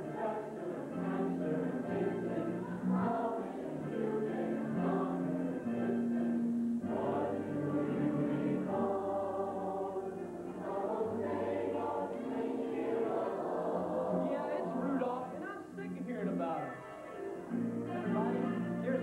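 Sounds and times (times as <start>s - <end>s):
choir singing in harmony: 0.0s - 15.4s, 17.4s - 19.0s.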